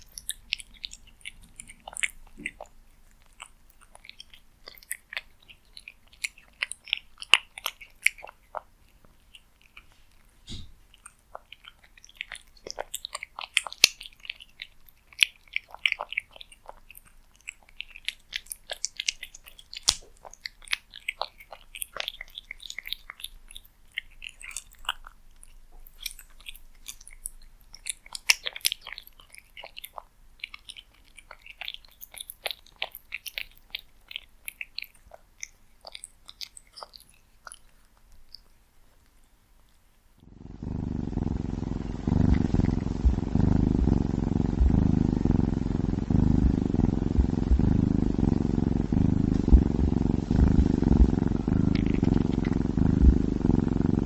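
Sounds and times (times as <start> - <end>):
cat purring: 0.0 - 35.2, 40.2 - 54.0
cat chewing food: 0.0 - 54.0.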